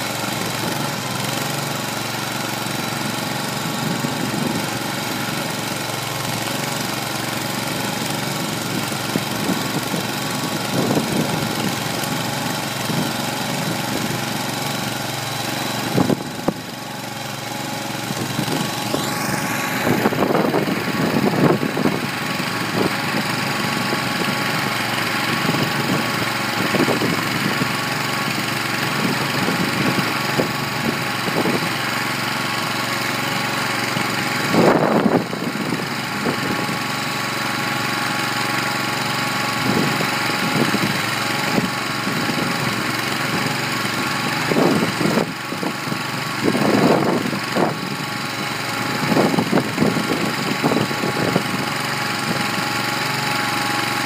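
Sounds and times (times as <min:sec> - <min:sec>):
gas engine running: 0:00.0 - 0:54.0
mixer knocking: 0:00.0 - 0:54.0.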